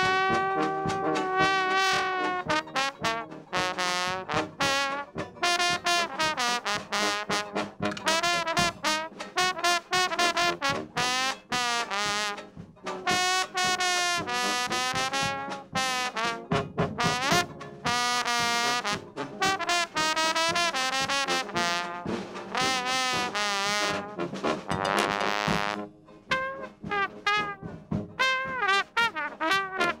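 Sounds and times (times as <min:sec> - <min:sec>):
slide trombone solo: 0:00.0 - 0:30.0.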